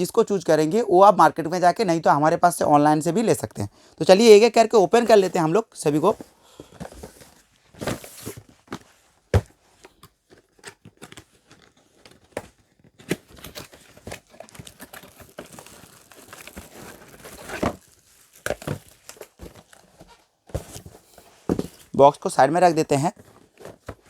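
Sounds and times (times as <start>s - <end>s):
cardboard and wrapping crinkling: 4.4s - 24.0s.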